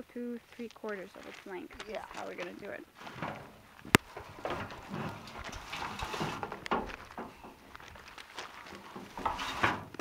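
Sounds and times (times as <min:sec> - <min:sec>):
dry straw rustling and crunching: 0:00.4 - 0:09.8.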